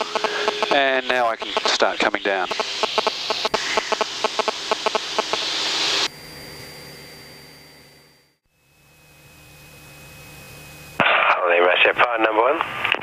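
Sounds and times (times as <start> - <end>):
aircraft engine and wind drone: 0.0 - 13.0.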